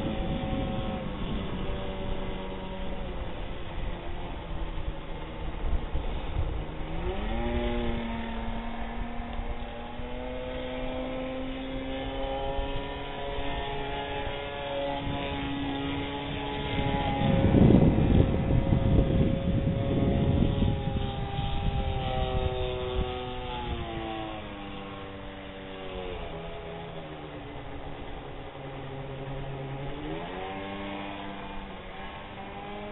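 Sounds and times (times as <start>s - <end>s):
model airplane motor and propeller: 0.0s - 32.9s.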